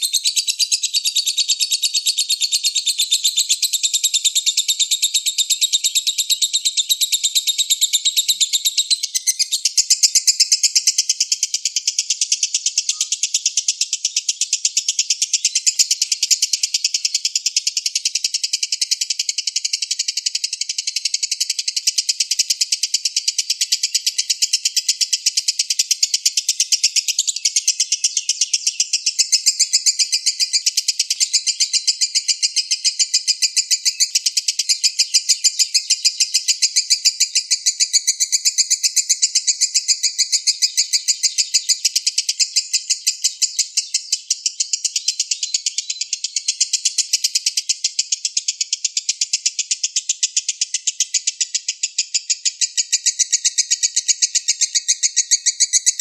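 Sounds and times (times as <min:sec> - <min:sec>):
lovebird chatter: 0:00.0 - 0:56.0.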